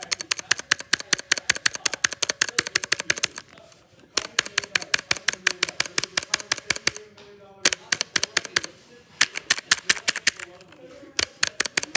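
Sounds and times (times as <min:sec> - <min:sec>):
rapid typing on a keyboard: 0:00.0 - 0:07.0, 0:07.6 - 0:11.9.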